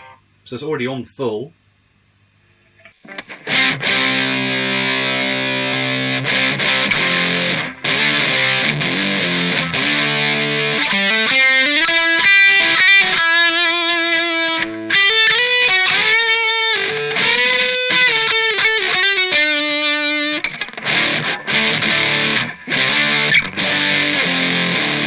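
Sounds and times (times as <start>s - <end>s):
distorted electric guitar lead: 0.0s - 0.2s, 2.9s - 25.0s.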